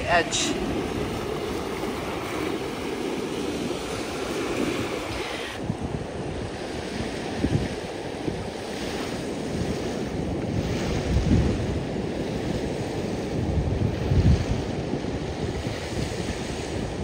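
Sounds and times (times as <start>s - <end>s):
small waves washing on shore: 0.0s - 17.0s
wind buffeting microphone: 0.0s - 17.0s.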